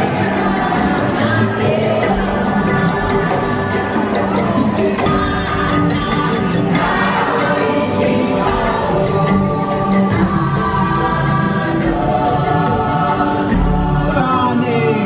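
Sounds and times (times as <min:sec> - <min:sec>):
choir-like voices singing and chanting: 0:00.0 - 0:15.0
instrumental music: 0:00.0 - 0:15.0.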